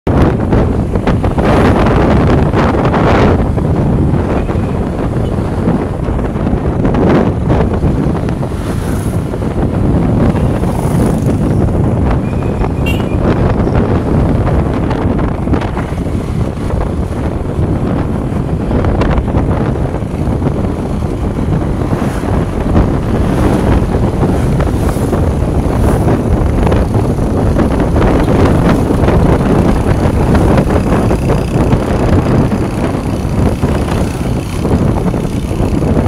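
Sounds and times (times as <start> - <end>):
engine and road rumble: 0.1 - 36.0
wind buffeting microphone: 0.1 - 36.0.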